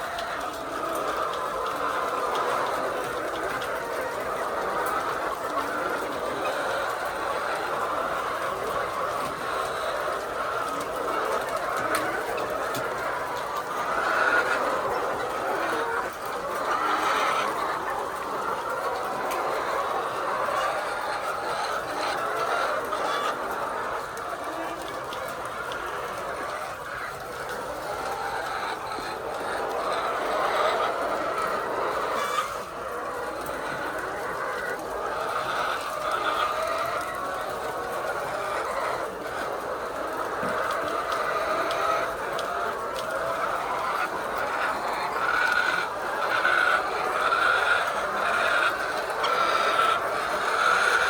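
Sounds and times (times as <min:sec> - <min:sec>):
hens clucking: 0:00.0 - 0:51.0.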